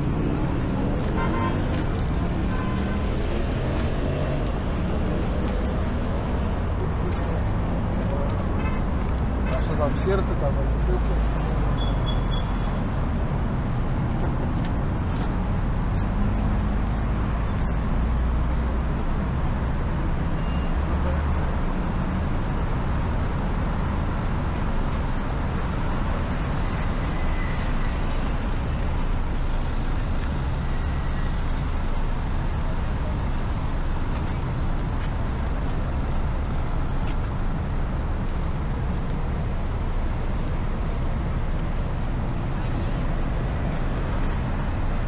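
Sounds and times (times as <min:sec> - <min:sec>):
road traffic: 0:00.0 - 0:45.0.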